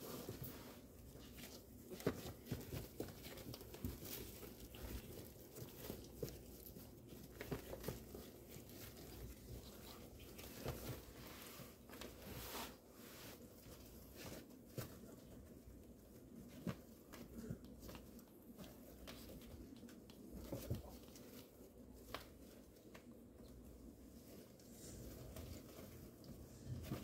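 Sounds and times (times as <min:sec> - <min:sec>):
puppies scratching and rustling: 0:00.0 - 0:27.0.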